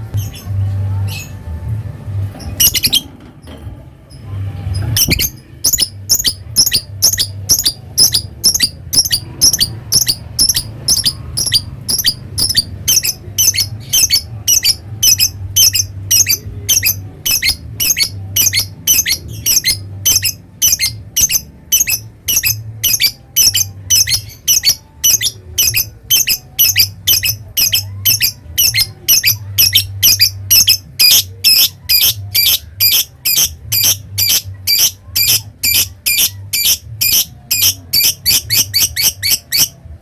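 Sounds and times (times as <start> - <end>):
bird high-pitched chirps: 2.6 - 3.1, 4.8 - 39.8.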